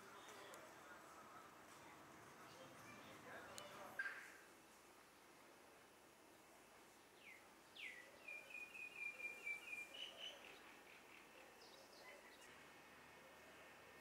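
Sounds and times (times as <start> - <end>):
low steady hiss: 0.0 - 14.0.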